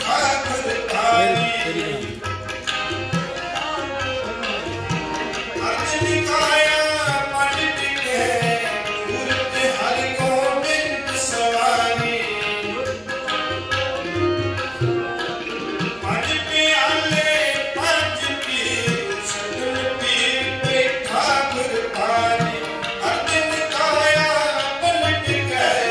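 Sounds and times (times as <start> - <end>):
harmonium: 0.0 - 25.9
tabla: 0.0 - 25.9.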